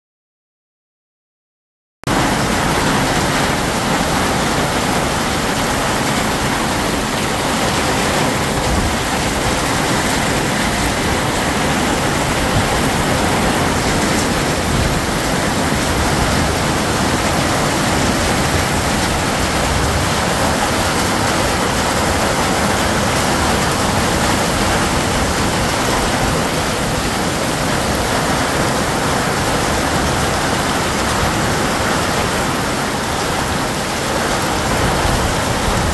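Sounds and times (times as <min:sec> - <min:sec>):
heavy rain pouring: 0:02.1 - 0:35.9.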